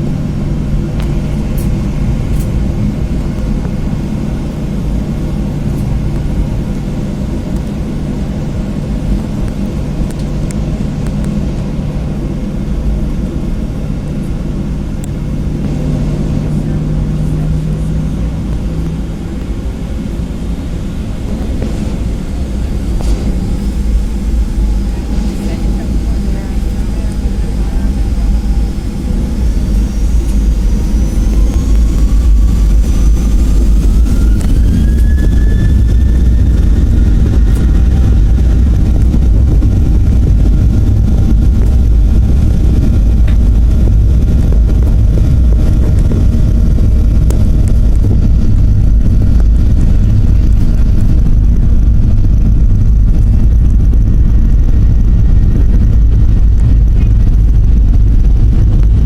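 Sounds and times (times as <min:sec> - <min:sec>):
jet engines spooling up: 0:00.0 - 0:59.0
takeoff roll rumble: 0:00.0 - 0:59.0.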